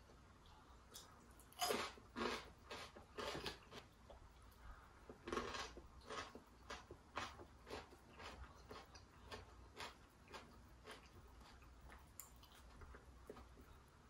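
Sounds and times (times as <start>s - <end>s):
crunchy chewing of fried chicken: 0.7s - 14.0s.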